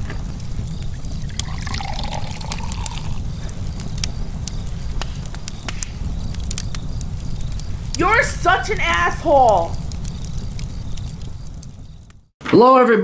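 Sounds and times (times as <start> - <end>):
soft hiss: 0.0 - 12.3
fire crackling: 0.0 - 12.4.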